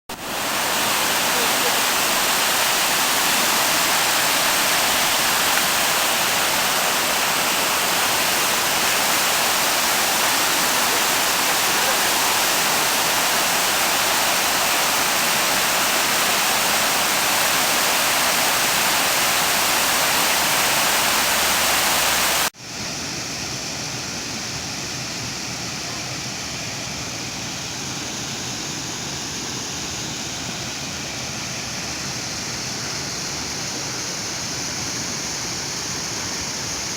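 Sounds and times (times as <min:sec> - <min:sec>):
waterfall rushing water: 0:00.1 - 0:36.9.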